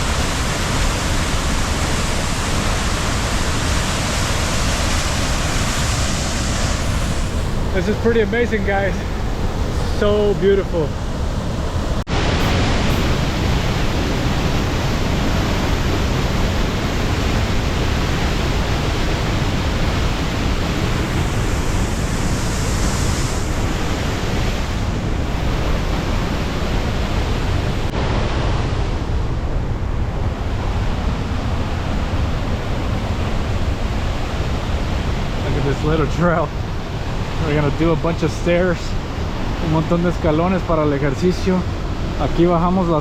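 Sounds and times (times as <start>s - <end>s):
waterfall roaring: 0.0s - 43.0s.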